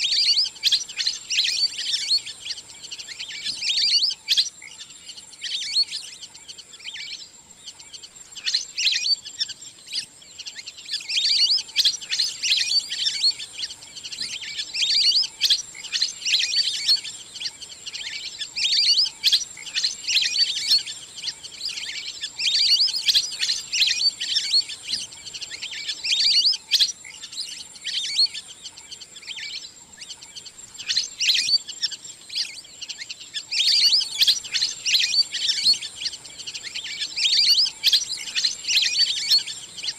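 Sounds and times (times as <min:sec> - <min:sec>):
ducks twittering whistles: 0:00.0 - 0:39.9.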